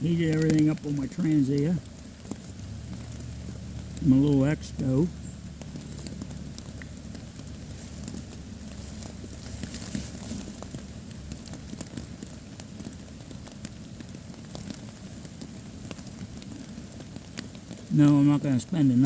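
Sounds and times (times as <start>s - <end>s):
rain pattering on a tarp: 0.0s - 19.0s
sharp drip ticks: 0.0s - 19.0s.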